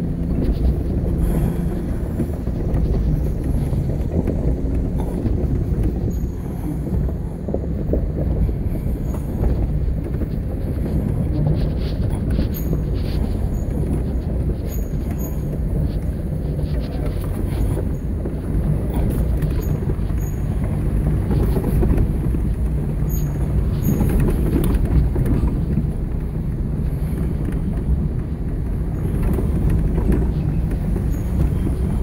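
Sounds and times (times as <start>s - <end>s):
low engine rumble inside vehicle: 0.0s - 32.0s.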